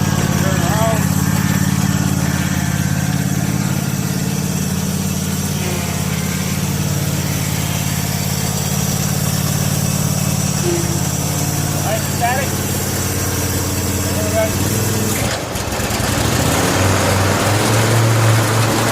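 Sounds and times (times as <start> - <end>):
lawn tractor engine humming: 0.0 - 18.9.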